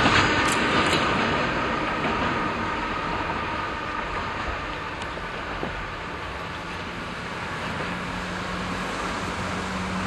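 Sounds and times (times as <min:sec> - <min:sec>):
railcar running on track: 0:00.0 - 0:10.0.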